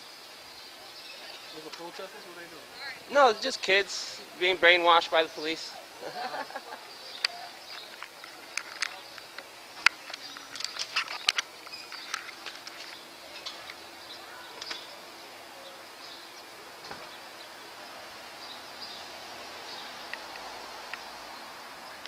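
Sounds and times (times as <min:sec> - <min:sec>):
faint high hiss: 0:00.0 - 0:22.0.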